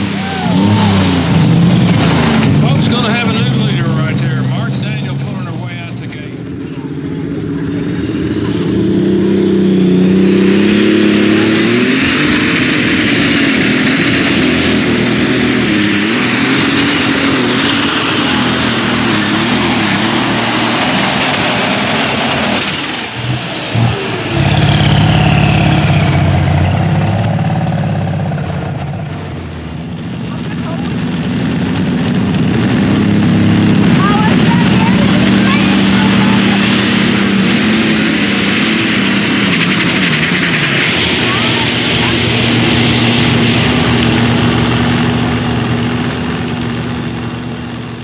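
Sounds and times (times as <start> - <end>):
tractor engine under load: 0.0 - 48.0
turbocharger whine: 0.0 - 48.0.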